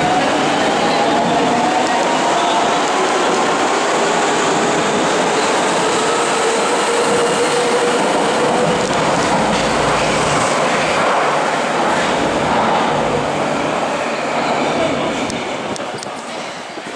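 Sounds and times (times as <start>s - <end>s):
train whine: 0.0s - 16.0s
train wheel and rail rumble: 0.0s - 16.9s.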